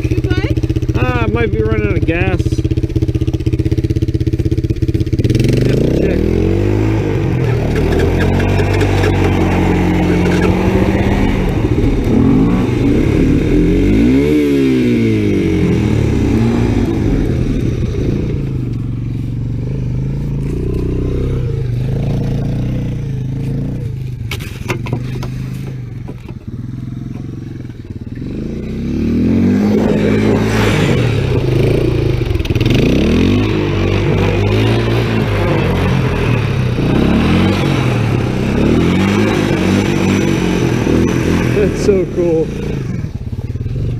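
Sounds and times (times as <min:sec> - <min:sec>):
engine running and revving: 0:00.0 - 0:43.9.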